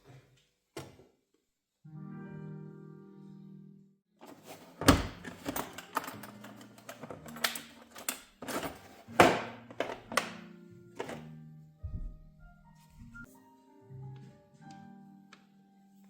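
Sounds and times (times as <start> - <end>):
faint background music: 2.0 - 16.0.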